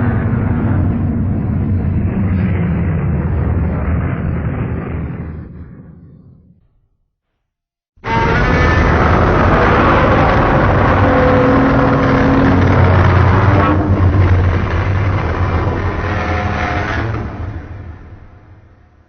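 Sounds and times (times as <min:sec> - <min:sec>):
loud rumbling monster roar: 0:00.0 - 0:05.2, 0:08.0 - 0:18.9.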